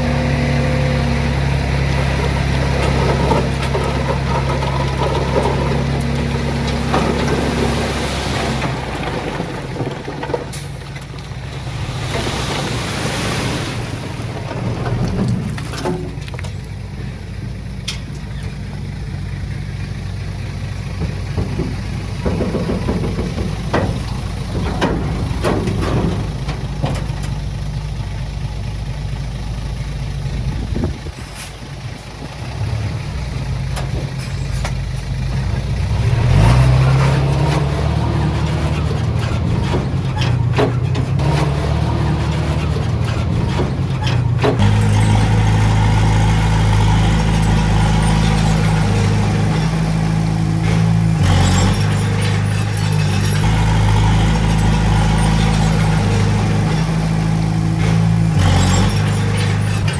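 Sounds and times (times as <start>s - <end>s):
knocks and clanks of tracks: 0.0s - 13.4s, 14.1s - 59.9s
bulldozer diesel engine running: 0.0s - 59.9s.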